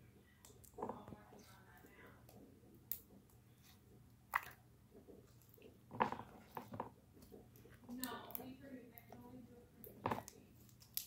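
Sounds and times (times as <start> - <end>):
slime squelching: 0.0 - 11.0.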